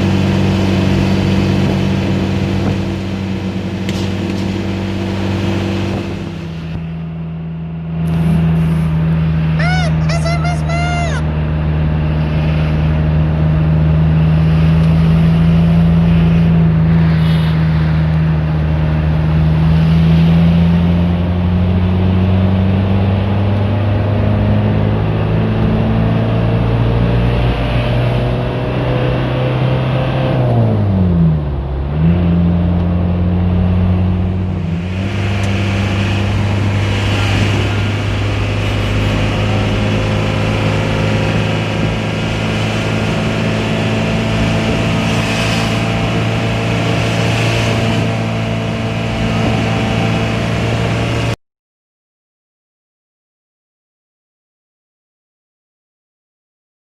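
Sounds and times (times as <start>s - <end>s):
car engine droning: 0.0s - 51.4s.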